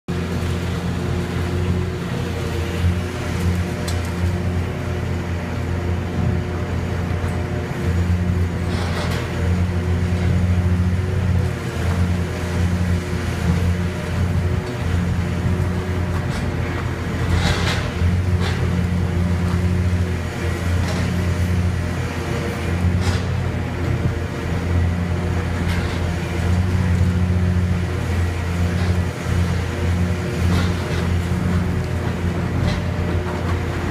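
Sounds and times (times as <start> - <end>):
excavator diesel engine hum: 0.1 - 33.9.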